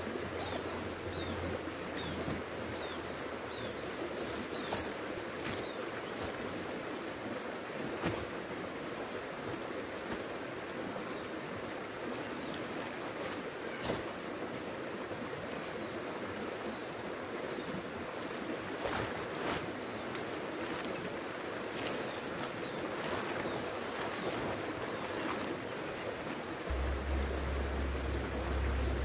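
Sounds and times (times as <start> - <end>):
flowing river rushing: 0.0 - 29.0.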